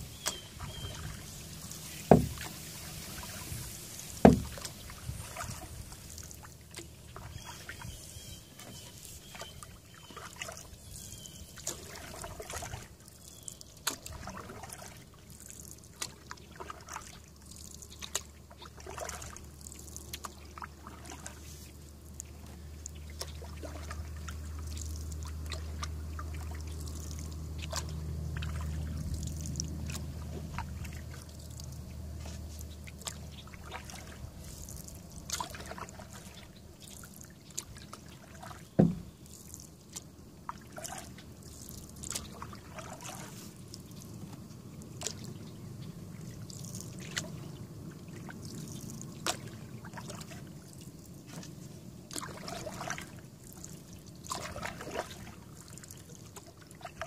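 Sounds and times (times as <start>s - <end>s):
small splashes: 0.0s - 57.0s
water trickling and dripping: 0.0s - 57.0s.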